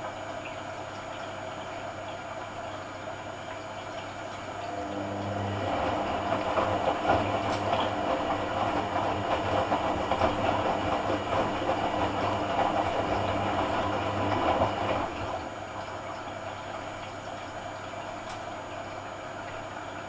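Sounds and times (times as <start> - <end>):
washing machine running: 0.0 - 20.0.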